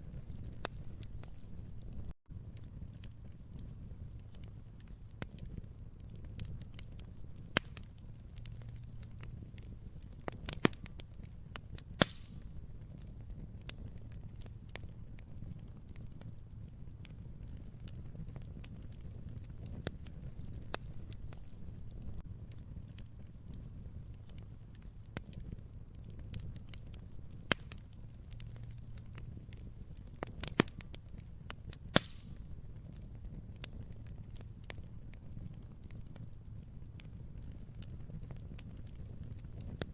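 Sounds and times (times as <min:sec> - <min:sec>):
low rumble of flames: 0:00.0 - 0:39.9
sharp pops from fire: 0:00.0 - 0:39.9
wood fire crackling: 0:00.0 - 0:39.9.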